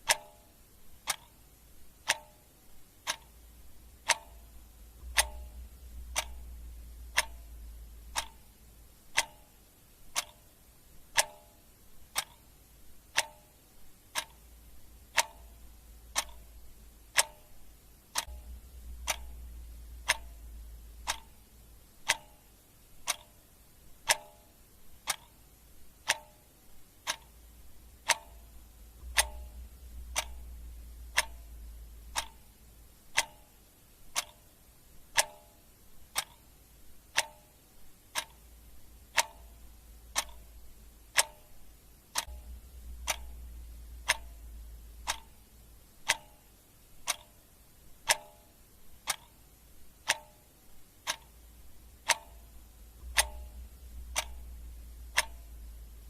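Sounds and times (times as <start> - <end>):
clock ticking: 0.0 - 56.0
faint low hum: 0.0 - 56.0.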